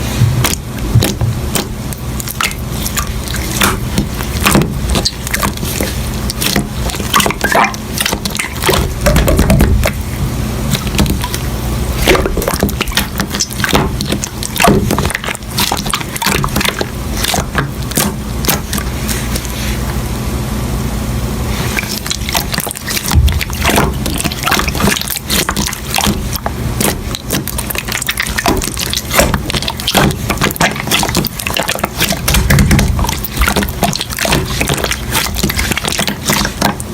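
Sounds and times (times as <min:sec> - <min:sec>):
steady low hum: 0:00.0 - 0:36.9
slime squishing with wet clicks: 0:00.4 - 0:10.0, 0:10.7 - 0:19.5, 0:21.7 - 0:36.9.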